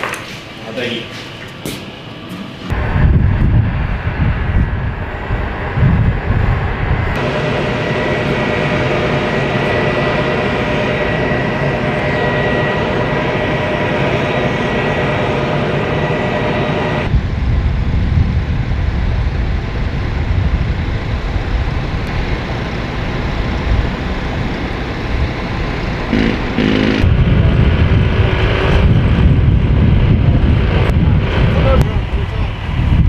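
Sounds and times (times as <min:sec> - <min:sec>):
heavy rotor noise: 0:00.0 - 0:33.0
helicopter engines whining: 0:00.0 - 0:33.0
low rumble with buffeting: 0:02.6 - 0:33.0.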